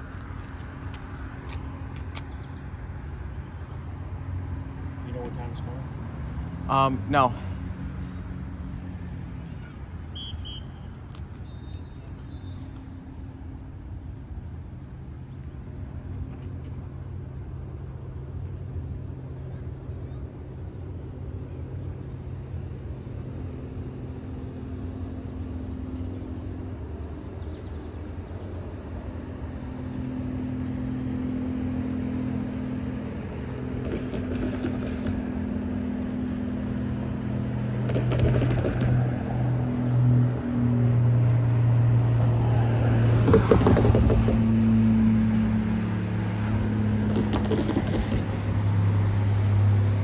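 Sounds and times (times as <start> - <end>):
engine rumble with hum: 0.0 - 50.0.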